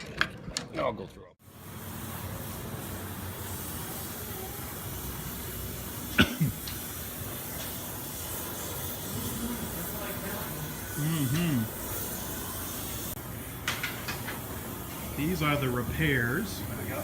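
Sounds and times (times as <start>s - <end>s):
gas torch flame hissing: 1.4s - 17.0s.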